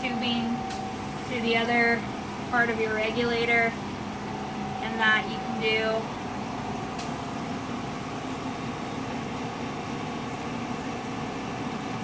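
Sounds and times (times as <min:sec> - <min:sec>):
ventilation and equipment hum: 0:00.0 - 0:12.0.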